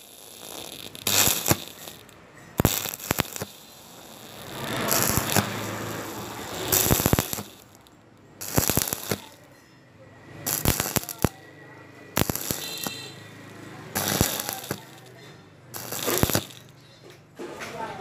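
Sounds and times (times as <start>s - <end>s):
welding arc crackling: 0.0s - 9.6s, 10.4s - 16.9s.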